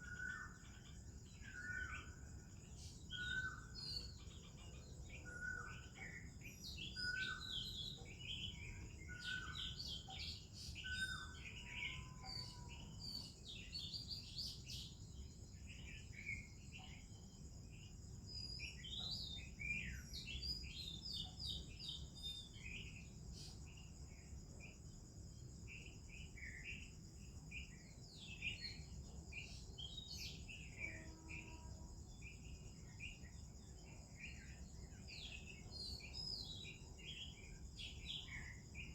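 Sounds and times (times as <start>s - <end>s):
birds singing: 0.0s - 38.9s
high insect drone: 0.0s - 38.9s.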